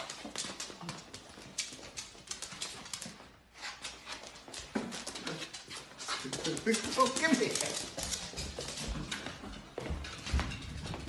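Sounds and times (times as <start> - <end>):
dog claws scrabbling on hard floor: 0.0 - 11.0.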